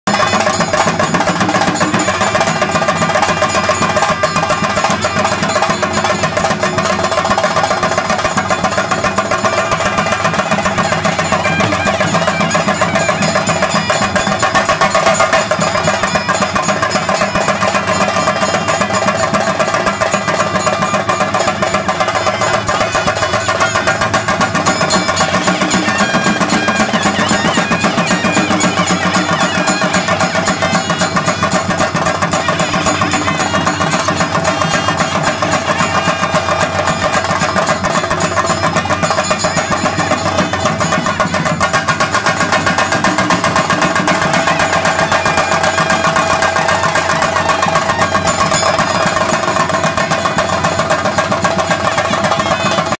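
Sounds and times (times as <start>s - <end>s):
drums playing fast roll: 0.0s - 52.9s
steady ringing tone: 0.1s - 52.9s.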